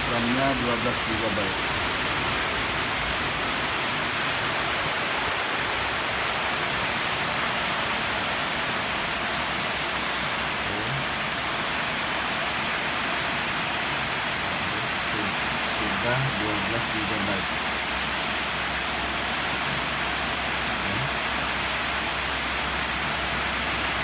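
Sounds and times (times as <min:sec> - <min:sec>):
steady even hiss: 0:00.0 - 0:24.0.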